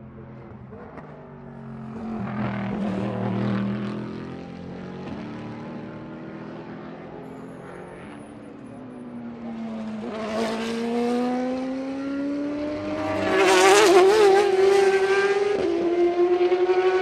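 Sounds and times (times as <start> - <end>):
race car engine passing: 0.4 - 8.4, 9.2 - 17.0.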